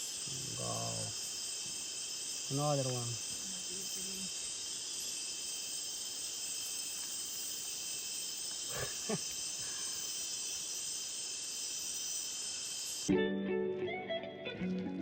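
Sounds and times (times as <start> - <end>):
insect chorus: 0.0 - 13.1.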